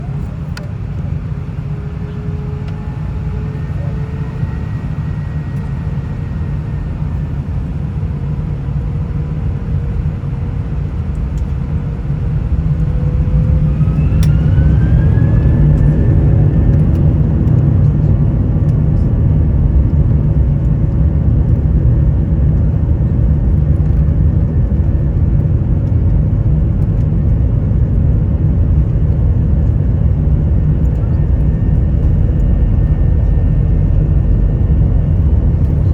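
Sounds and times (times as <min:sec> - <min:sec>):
airliner cabin hum and rumble: 0:00.0 - 0:35.9
jet engine whine: 0:00.0 - 0:35.9.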